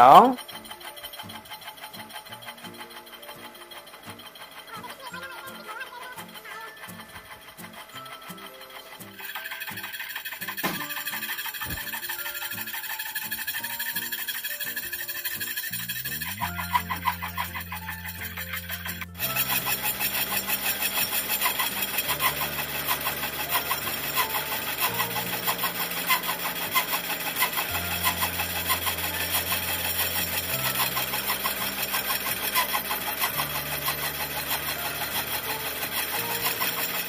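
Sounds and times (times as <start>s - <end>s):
milling cutter chattering through metal: 0.0s - 37.0s.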